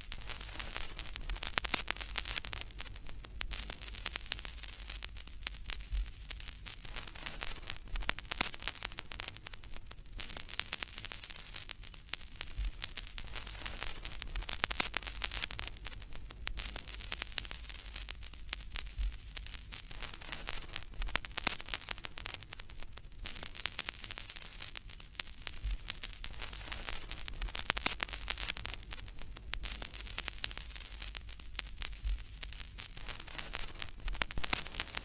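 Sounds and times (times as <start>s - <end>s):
crackling static hiss: 0.0s - 35.0s.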